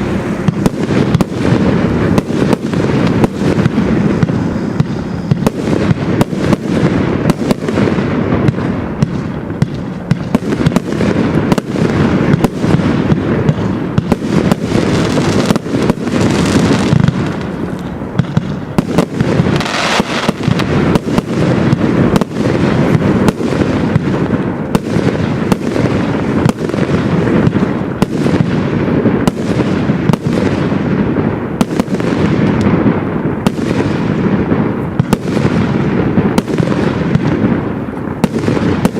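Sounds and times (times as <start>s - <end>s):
firework barrage bangs: 0.0s - 38.9s
firework hiss: 0.0s - 38.9s
firework rumble: 0.0s - 38.9s.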